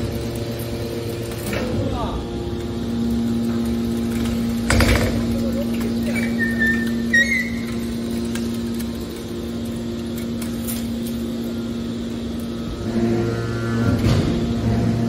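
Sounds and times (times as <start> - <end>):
deeper hum: 0.0 - 15.0
hydraulic power unit humming: 0.0 - 15.0.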